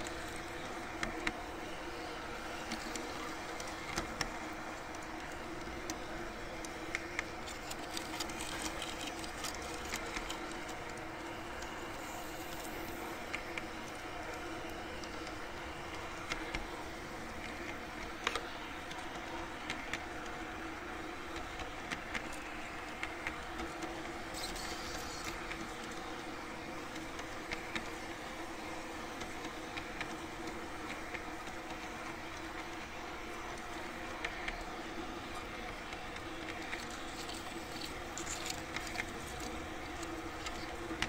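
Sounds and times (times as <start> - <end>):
model train electric drive humming: 0.0 - 41.0.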